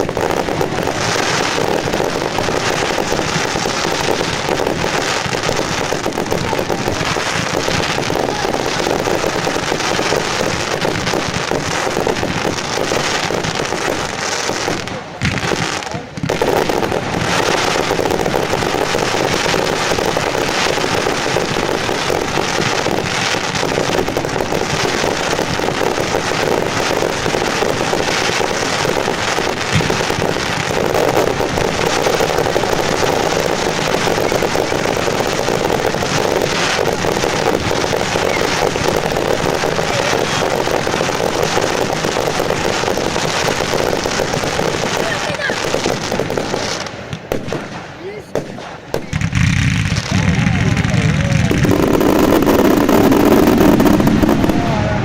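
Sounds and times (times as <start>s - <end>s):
fireworks crackling and banging: 0.0s - 55.0s.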